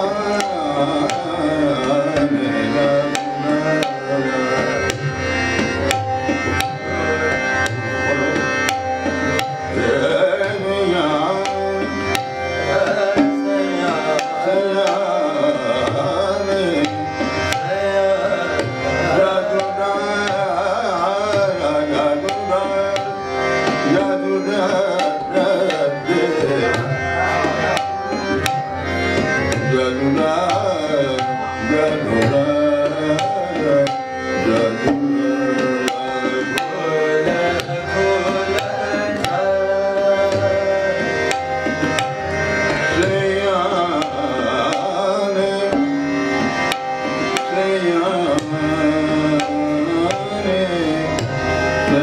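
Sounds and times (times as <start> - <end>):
man singing: 0.0 - 28.6, 29.4 - 52.0
harmonium: 0.0 - 52.0
tabla strokes: 0.0 - 52.0
tanpura drone: 0.0 - 52.0.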